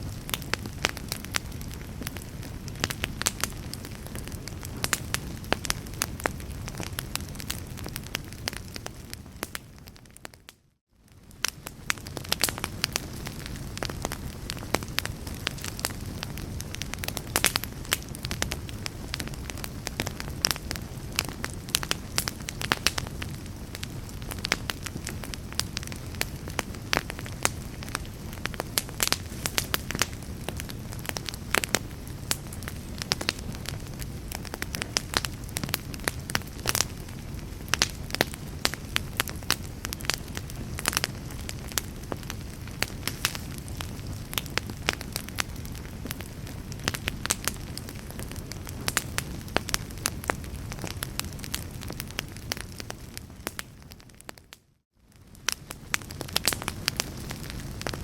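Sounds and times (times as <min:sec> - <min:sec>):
fire crackles and pops: 0:00.0 - 0:58.0
log fire flames rumbling: 0:00.0 - 0:58.0.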